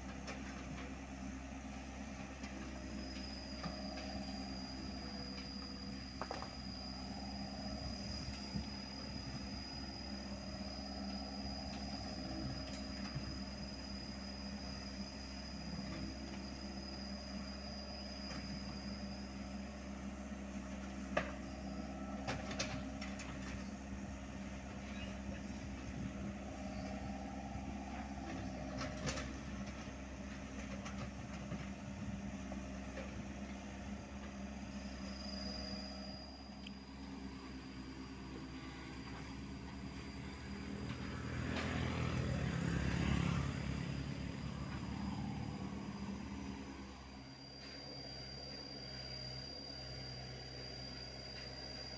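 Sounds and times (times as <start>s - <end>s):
excavator diesel engine: 0.0s - 51.9s.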